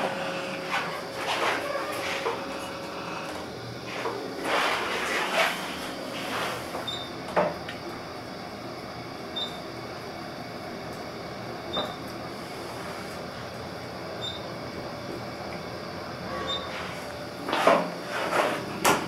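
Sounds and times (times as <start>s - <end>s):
elevator ride noise: 0.0s - 19.0s.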